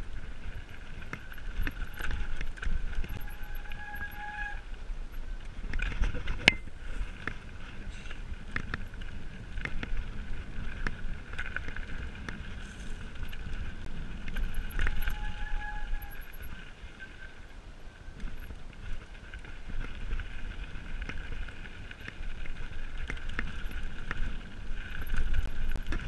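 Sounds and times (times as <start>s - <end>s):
bike rattling over bumps: 0.0s - 17.3s, 18.2s - 26.0s
bike tyres on dirt: 0.0s - 26.0s
wind on microphone: 0.0s - 26.0s.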